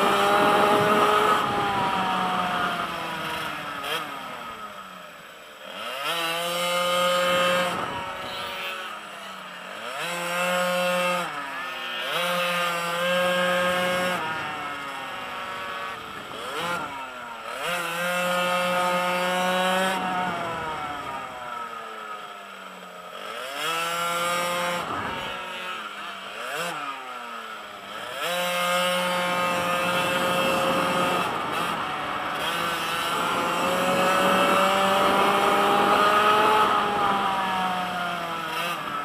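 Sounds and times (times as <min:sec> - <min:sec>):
pocket bike engine revving: 0:00.0 - 0:39.0.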